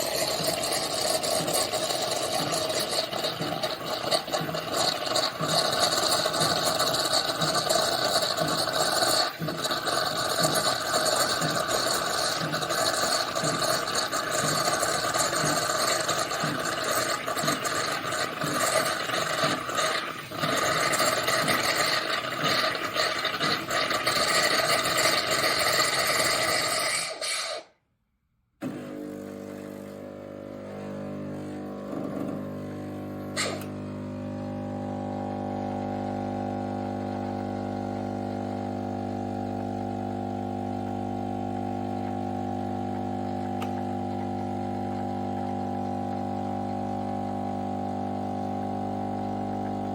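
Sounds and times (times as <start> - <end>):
espresso machine rattling and hissing: 0.0 - 27.7, 28.6 - 49.9.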